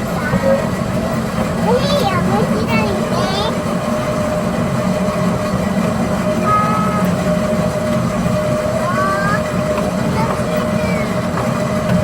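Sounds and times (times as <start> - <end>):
ride vehicle motor running: 0.0 - 12.0.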